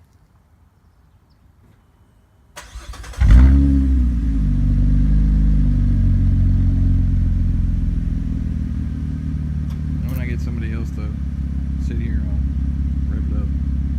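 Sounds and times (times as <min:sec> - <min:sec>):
car engine idling: 0:02.6 - 0:13.9.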